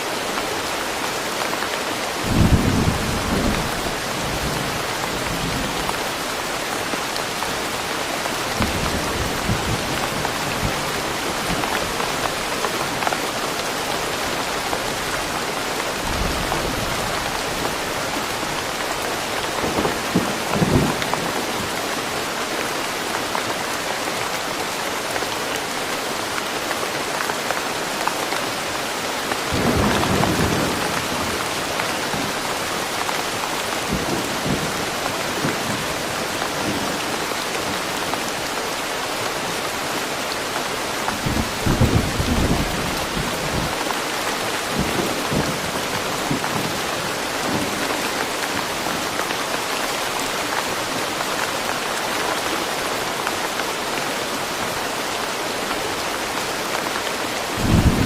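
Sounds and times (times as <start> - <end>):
rain pattering in woodland: 0.0 - 58.0.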